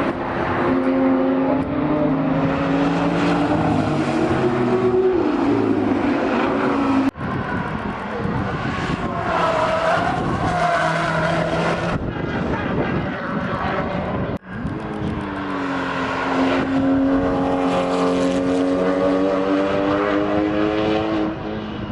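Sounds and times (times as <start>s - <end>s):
car engines accelerating past: 0.0s - 21.9s.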